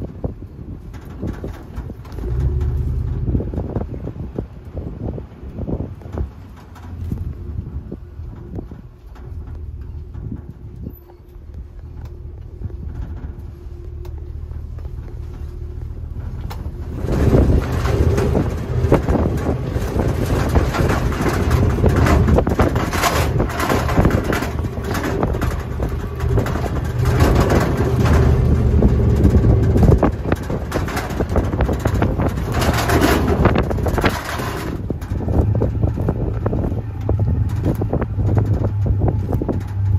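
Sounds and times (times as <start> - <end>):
truck engine hum: 0.0 - 39.9
wind buffeting microphone: 0.0 - 39.9.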